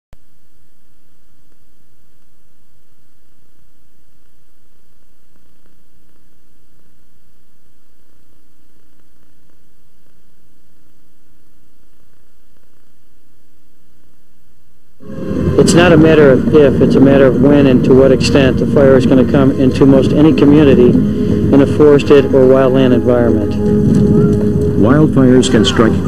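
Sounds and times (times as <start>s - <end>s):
low electrical hum: 0.2s - 26.0s
static hiss: 0.2s - 26.0s.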